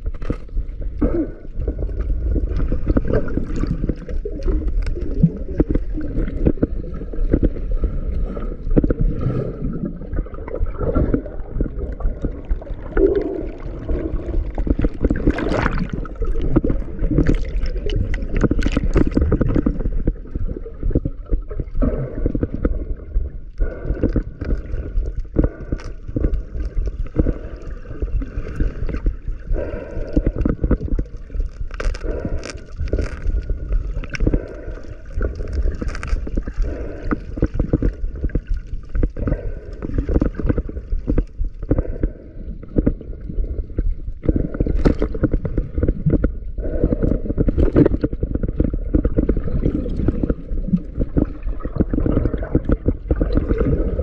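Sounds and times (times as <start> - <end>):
muffled underwater rushing: 0.0 - 54.0.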